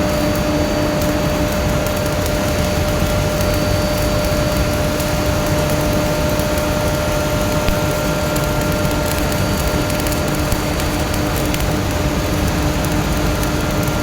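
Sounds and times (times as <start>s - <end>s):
steady hum: 0.0s - 14.0s
welding arc crackling and sizzling: 0.0s - 14.0s.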